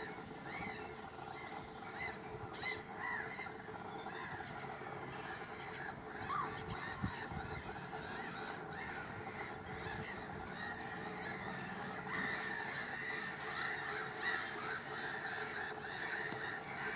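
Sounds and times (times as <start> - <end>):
gulls calling: 0.0 - 16.9.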